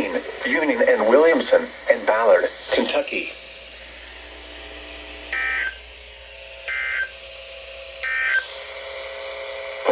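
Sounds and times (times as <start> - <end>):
faint steady hum: 0.0 - 9.9.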